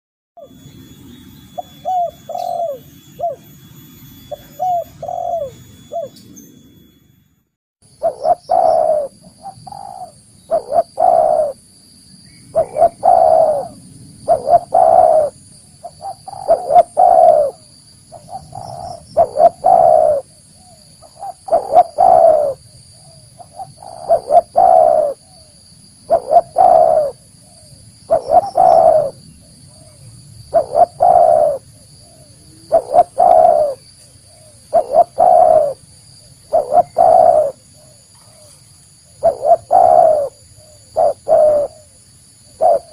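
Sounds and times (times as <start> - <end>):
faint high hum: 0.4 - 42.9
dove cooing: 1.6 - 3.4, 4.3 - 6.2, 8.0 - 11.6, 12.5 - 42.9.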